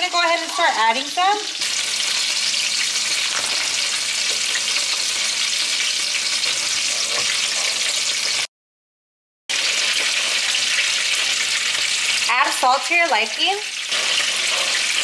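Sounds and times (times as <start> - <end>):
sauce sizzling and bubbling: 0.1 - 8.5, 9.5 - 15.0.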